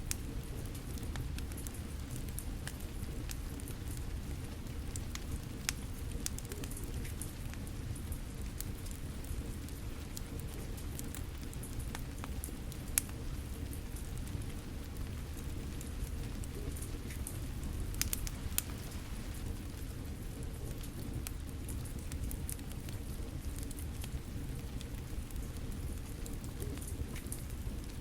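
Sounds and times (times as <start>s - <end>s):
fire crackling: 0.0s - 28.0s
steady rain falling: 0.0s - 28.0s.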